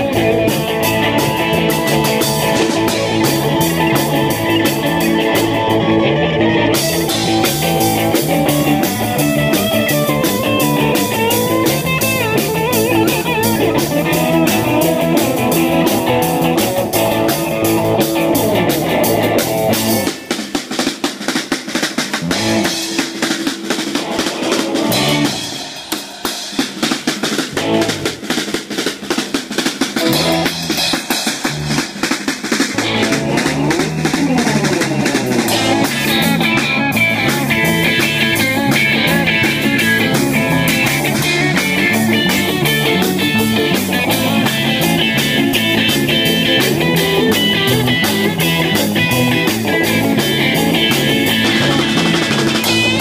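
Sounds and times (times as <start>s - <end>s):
fast snare and cymbal beat: 0.0s - 5.8s, 6.7s - 53.0s
bass guitar: 0.0s - 53.0s
electric guitars: 0.0s - 53.0s.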